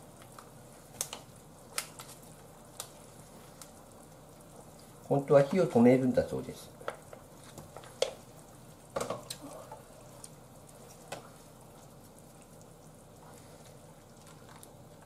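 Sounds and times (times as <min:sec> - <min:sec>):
stew simmering in a saucepan: 0:00.0 - 0:15.0.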